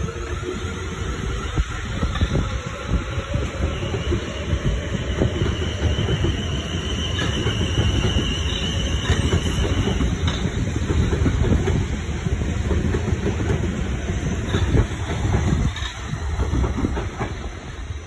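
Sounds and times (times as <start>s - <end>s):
train wheels rumbling and clattering: 0.0s - 18.0s.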